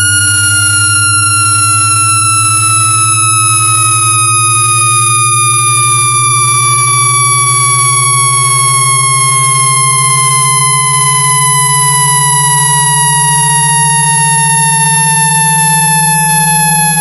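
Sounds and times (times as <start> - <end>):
electronic tones sliding in pitch: 0.0 - 17.0
pulsing low hum: 0.0 - 17.0
thin high whistle: 0.0 - 17.0.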